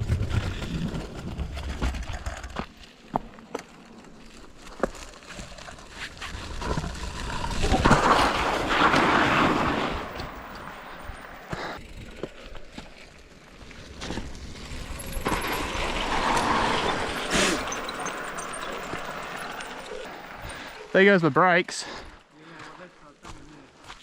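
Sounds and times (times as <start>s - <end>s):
scraping rush of tyres: 0.0s - 22.2s.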